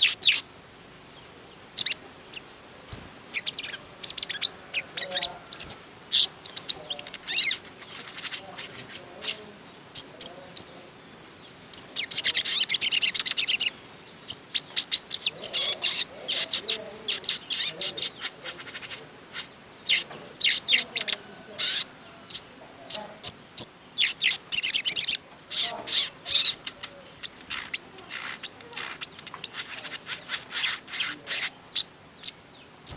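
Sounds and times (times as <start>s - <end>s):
sunbird singing chirps and trills: 0.0s - 32.9s.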